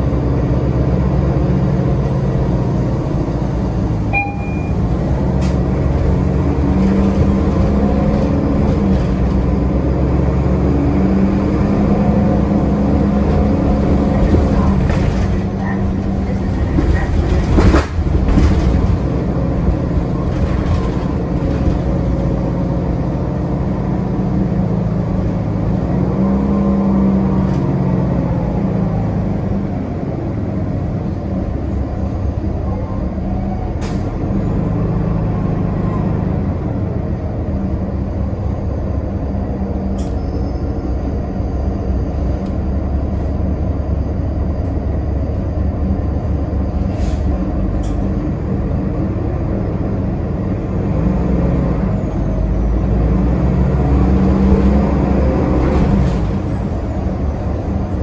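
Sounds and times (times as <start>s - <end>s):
bus diesel engine droning: 0.0s - 58.0s
road noise: 0.0s - 58.0s.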